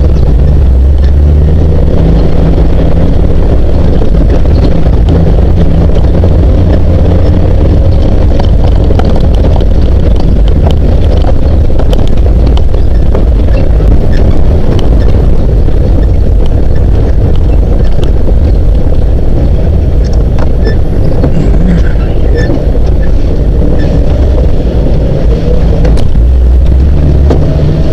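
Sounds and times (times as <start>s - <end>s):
off-road vehicle engine driving: 0.0s - 27.9s
wind buffeting microphone: 0.0s - 27.9s.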